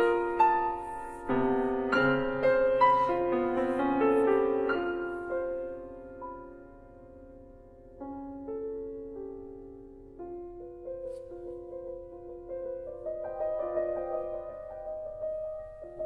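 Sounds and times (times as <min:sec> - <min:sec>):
grand piano playing chords: 0:00.0 - 0:16.0.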